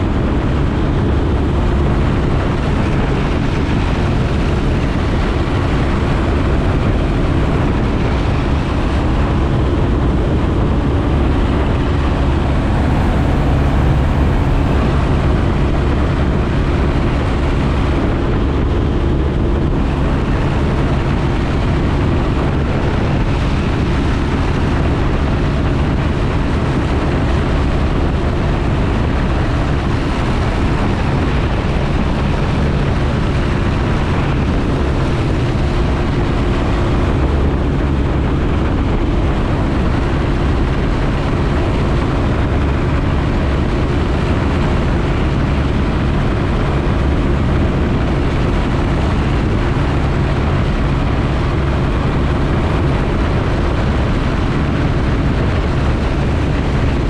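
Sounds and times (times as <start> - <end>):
airplane engine and propeller droning: 0.0 - 57.0
rushing wind: 0.0 - 57.0.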